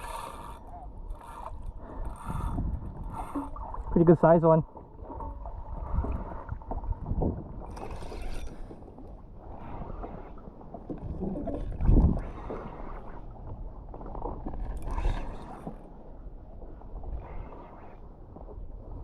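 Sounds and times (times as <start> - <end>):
water splashing against kayak hull: 0.0 - 19.0.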